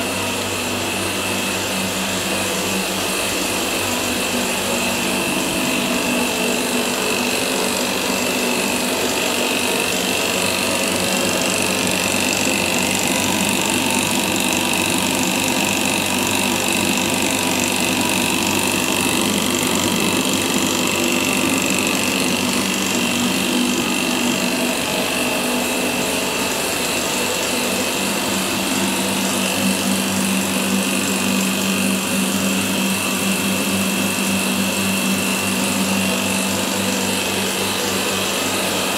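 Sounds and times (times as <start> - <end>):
pump motor humming and whining: 0.0 - 38.9.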